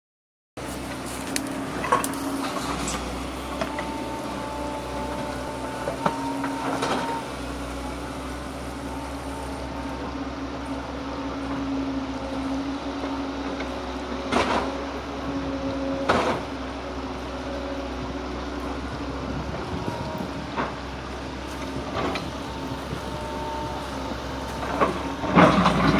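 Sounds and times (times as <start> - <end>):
excavator diesel engine running: 0.6 - 25.9.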